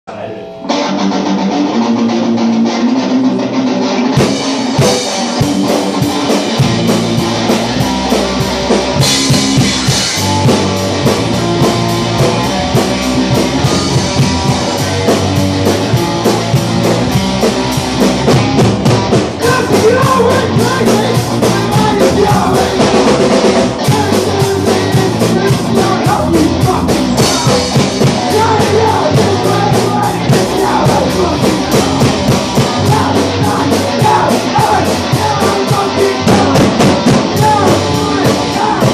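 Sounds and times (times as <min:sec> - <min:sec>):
electric guitar: 0:00.1 - 0:38.9
drum kit beat: 0:03.8 - 0:38.9.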